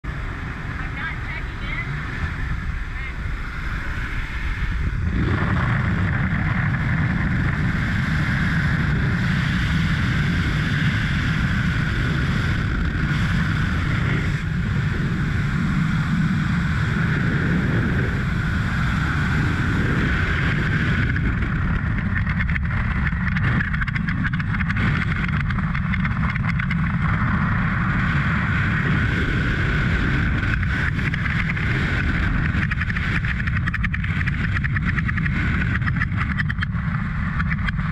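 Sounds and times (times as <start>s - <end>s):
freefall wind rushing over microphone: 0.0s - 37.9s.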